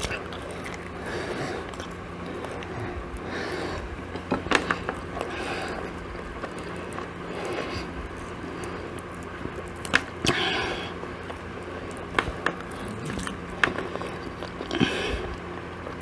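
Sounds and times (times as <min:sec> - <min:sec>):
person chewing: 0:00.0 - 0:10.9, 0:11.8 - 0:15.4
steady low hum: 0:00.0 - 0:16.0.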